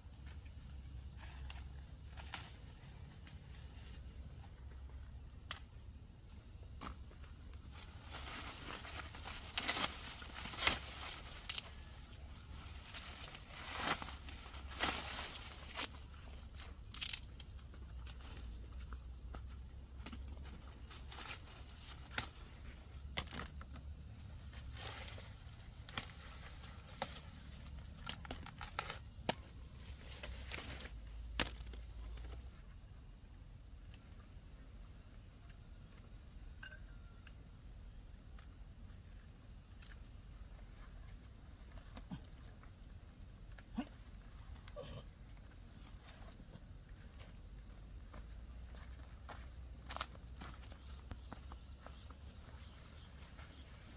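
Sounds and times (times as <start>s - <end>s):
crickets droning: 0.0s - 53.9s.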